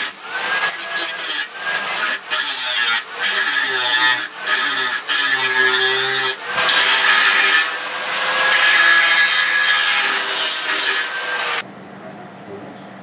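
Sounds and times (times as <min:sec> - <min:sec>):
electric drill boring into metal: 0:00.0 - 0:11.6.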